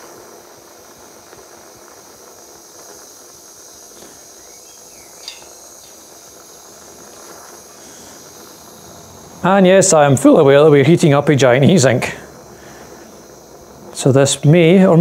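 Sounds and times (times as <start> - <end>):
blowtorch flame hissing: 0.0 - 15.0.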